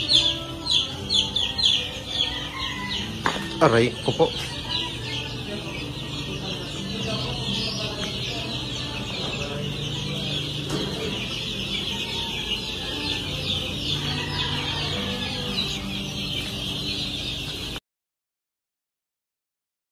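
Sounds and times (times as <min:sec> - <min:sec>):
chicks peeping: 0:00.0 - 0:17.8.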